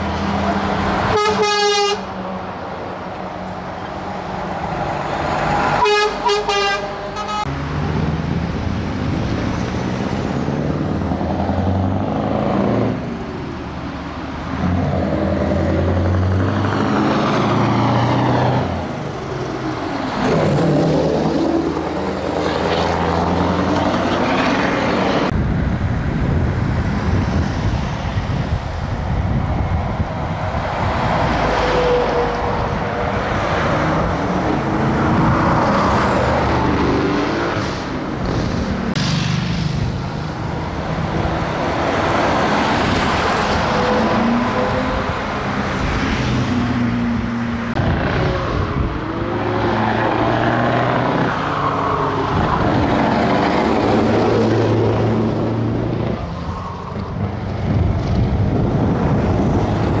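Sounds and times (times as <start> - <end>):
heavy trucks driving past: 0.0 - 60.0.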